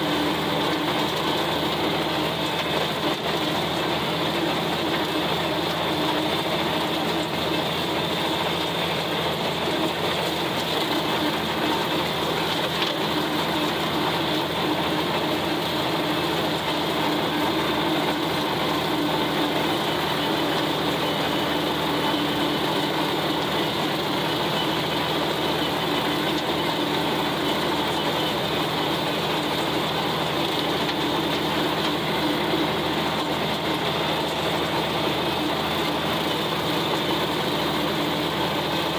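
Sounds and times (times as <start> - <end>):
rotary cutter chopping grass: 0.0 - 38.9
tractor engine under load: 0.0 - 38.9.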